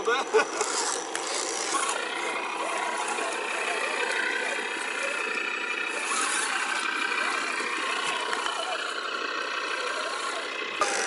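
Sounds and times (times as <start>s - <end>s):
toy truck motor whining: 0.0s - 11.0s.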